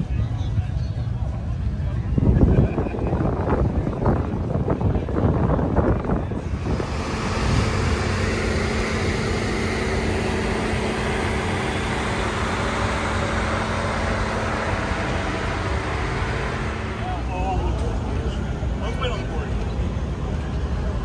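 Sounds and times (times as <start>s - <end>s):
traffic hum: 0.0s - 21.0s.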